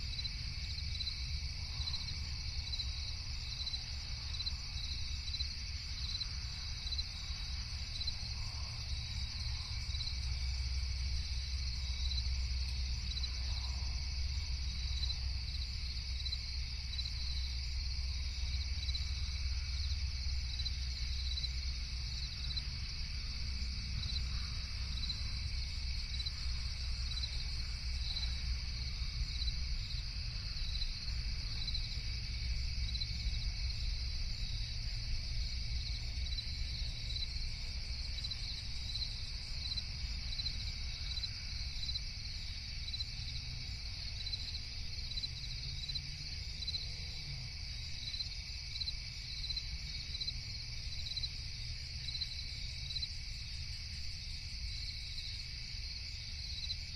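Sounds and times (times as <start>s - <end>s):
crickets chirping: 0.0s - 56.9s
insect hum: 0.0s - 56.9s.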